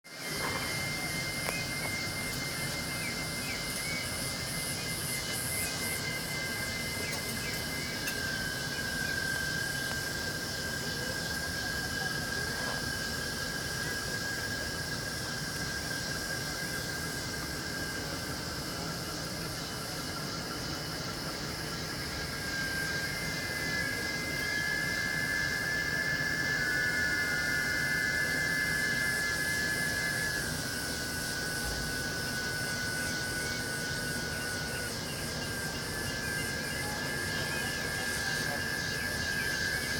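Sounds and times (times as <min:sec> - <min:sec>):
fast pulsing high chirp: 0:00.1 - 0:39.9
insects calling in high tones: 0:00.1 - 0:39.9
thin high-pitched whine: 0:00.1 - 0:39.9.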